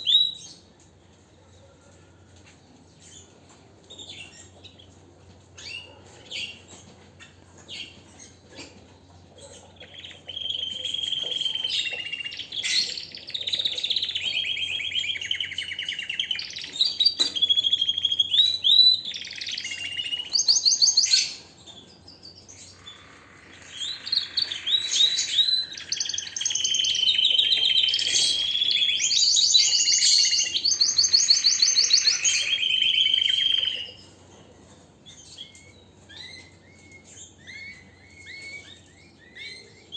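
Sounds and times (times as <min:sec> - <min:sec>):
canary singing: 0:03.0 - 0:39.9.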